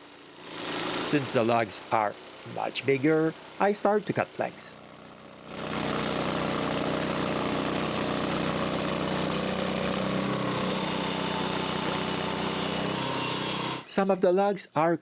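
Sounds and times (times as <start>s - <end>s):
sawmill engine running: 0.0s - 14.0s.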